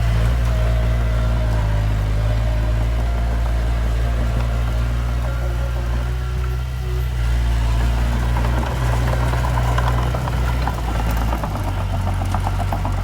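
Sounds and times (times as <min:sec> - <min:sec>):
heavy machinery diesel engine running: 0:00.0 - 0:13.0
rapid clattering: 0:00.0 - 0:13.0.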